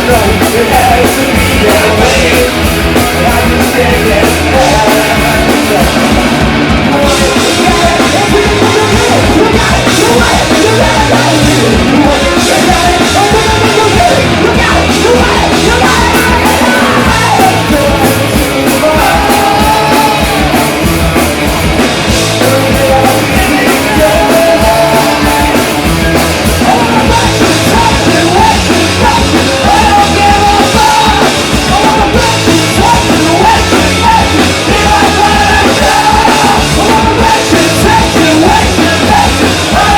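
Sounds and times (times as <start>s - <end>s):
drums: 0.0s - 39.9s
punk rock band playing live: 0.0s - 39.9s
shouted vocals: 0.0s - 39.9s.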